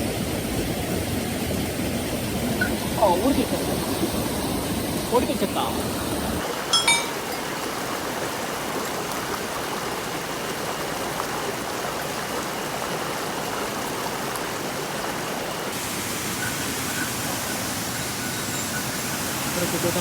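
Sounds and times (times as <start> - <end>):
mountain stream running: 0.0 - 20.0.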